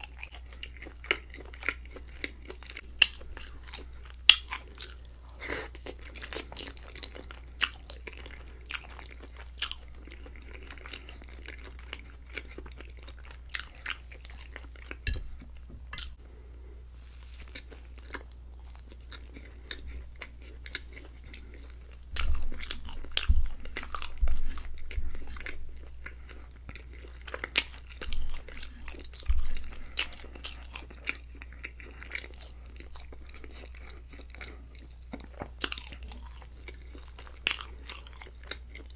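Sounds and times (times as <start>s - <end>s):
wet chewing and mouth clicks: 0.0s - 16.2s, 17.4s - 38.9s.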